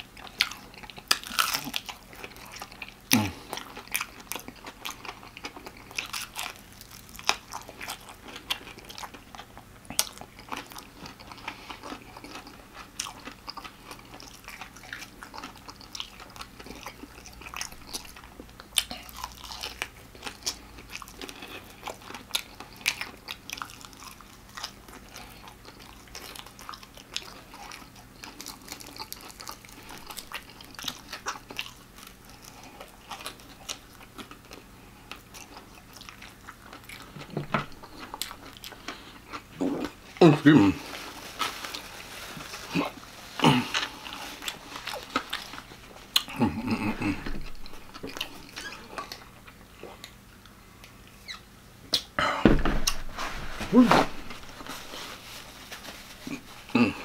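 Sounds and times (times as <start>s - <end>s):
chewing crispy fried chicken: 0.0s - 52.1s, 53.7s - 57.0s.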